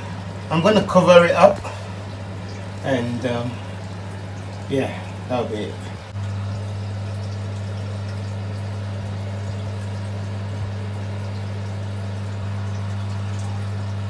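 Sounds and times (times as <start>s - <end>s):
extractor fan motor hum: 0.0s - 14.0s.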